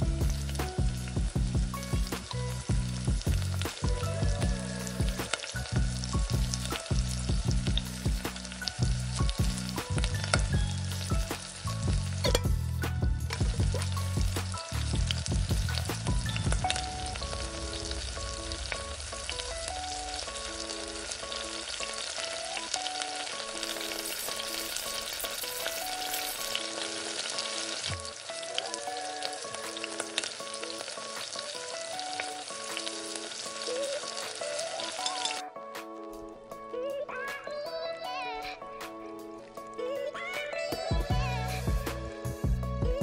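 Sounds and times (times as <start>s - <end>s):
okra sizzling in oil: 0.0s - 36.1s
soft background music: 0.0s - 43.0s.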